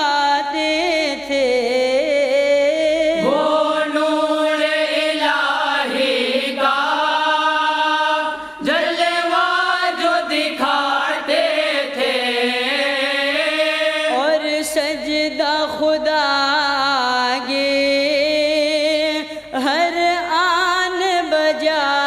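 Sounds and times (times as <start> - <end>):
voices singing devotional song: 0.0 - 22.0.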